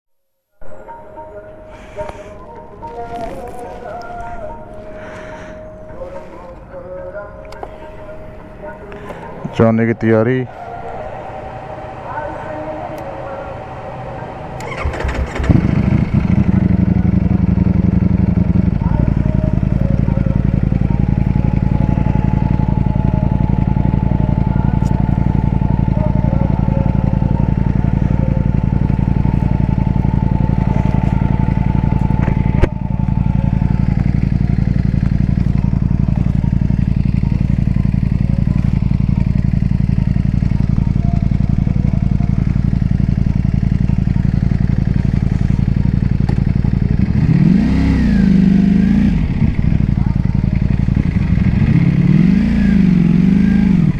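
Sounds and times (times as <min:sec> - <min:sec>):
road noise: 0:00.8 - 0:53.9
motorcycle engine running: 0:01.8 - 0:53.9.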